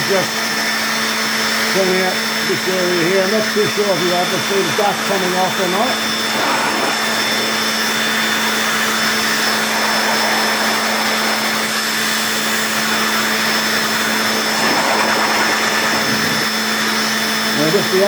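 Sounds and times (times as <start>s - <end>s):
cordless blower running: 0.0s - 18.0s.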